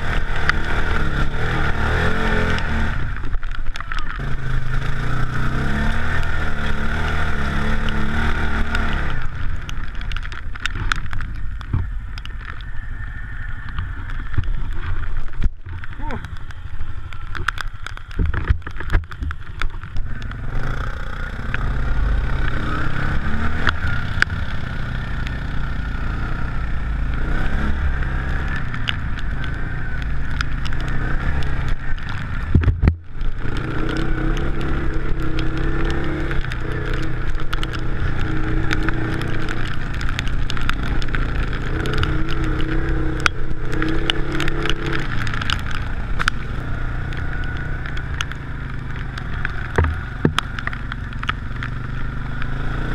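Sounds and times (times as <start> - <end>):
off-road vehicle engine under load: 0.0 - 52.9
rain ticking on microphone: 0.0 - 52.9.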